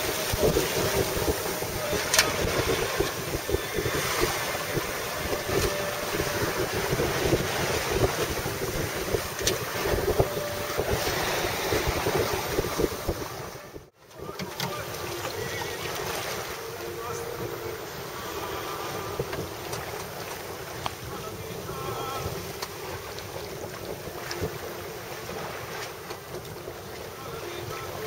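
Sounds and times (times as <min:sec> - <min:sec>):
water rushing along hull: 0:00.0 - 0:28.0
wind buffeting microphone: 0:00.0 - 0:28.0.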